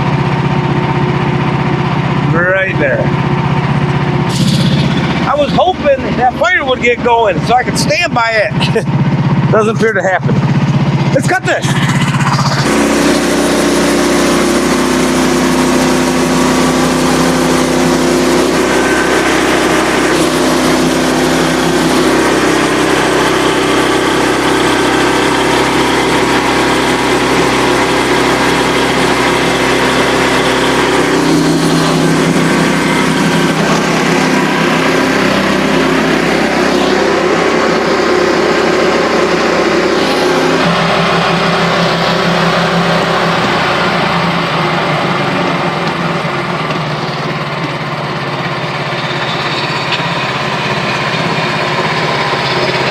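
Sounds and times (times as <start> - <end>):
gas engine running: 0.0 - 52.9
saw blade cutting log: 4.2 - 8.8, 9.6 - 47.2, 48.8 - 52.9.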